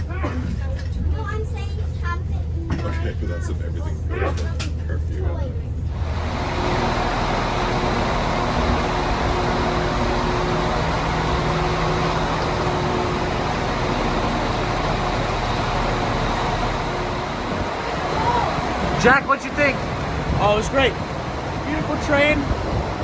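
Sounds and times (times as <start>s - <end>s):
faint held engine tones: 0.0s - 23.0s
train running with rumble: 0.0s - 23.0s.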